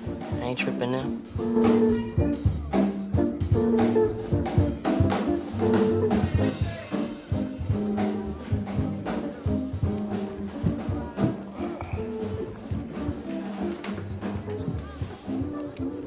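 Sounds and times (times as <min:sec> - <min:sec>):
drum kit: 0:00.0 - 0:16.0
electric jazz guitar comping chords: 0:01.1 - 0:16.0.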